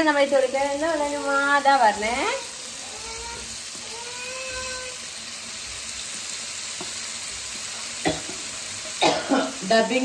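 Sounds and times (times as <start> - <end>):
cheese cubes sizzling in hot oil: 0.0 - 10.0.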